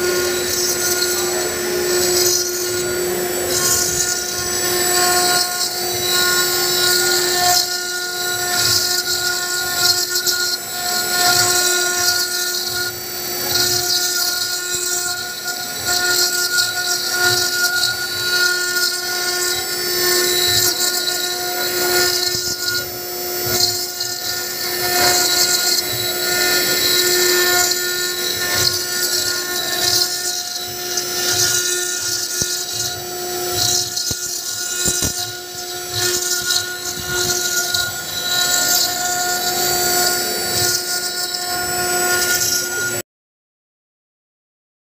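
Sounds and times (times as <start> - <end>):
high hiss of stone cutting: 0.0 - 43.0
router spindle whine: 0.0 - 43.0.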